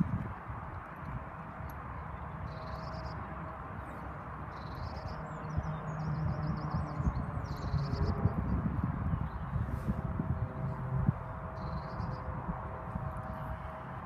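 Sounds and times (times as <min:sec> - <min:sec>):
songbirds chirping: 0:00.0 - 0:14.0
steady low rumble: 0:00.0 - 0:14.0.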